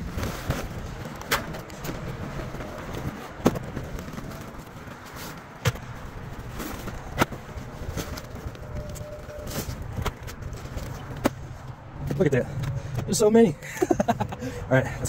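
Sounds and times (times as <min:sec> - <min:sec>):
notebooks knocking and clattering: 0:00.0 - 0:13.2.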